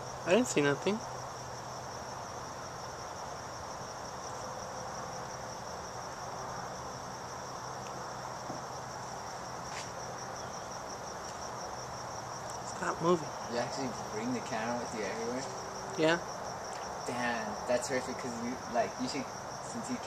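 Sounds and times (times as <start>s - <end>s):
crickets trilling: 0.0s - 20.0s
faint hiss: 0.0s - 20.0s.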